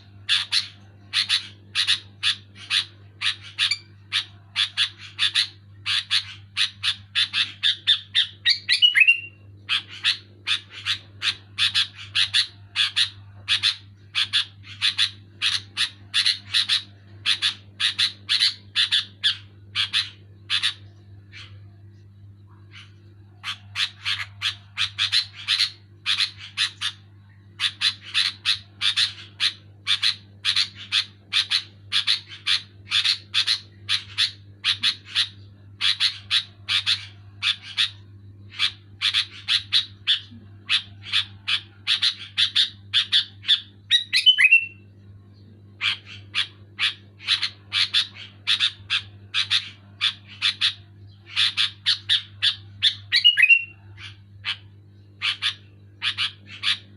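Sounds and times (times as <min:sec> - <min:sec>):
bird chattering calls: 0:00.0 - 0:21.7, 0:22.6 - 0:45.0, 0:45.8 - 0:56.9.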